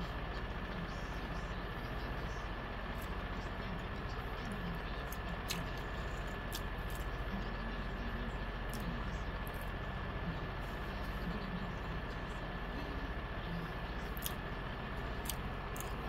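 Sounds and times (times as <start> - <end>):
faint high whine: 0.0 - 16.0
steady low hum: 0.0 - 16.0.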